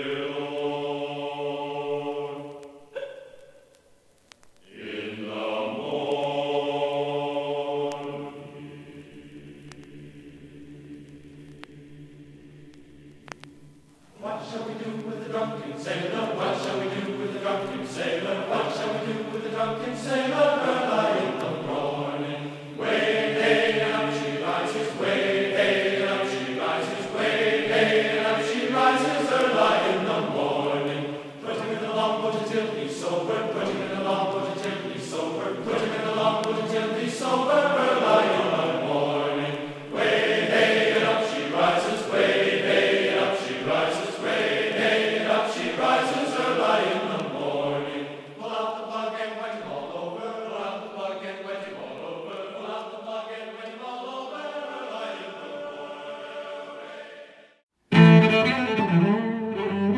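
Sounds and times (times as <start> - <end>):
choir singing: 0.0 - 3.4, 4.6 - 57.6.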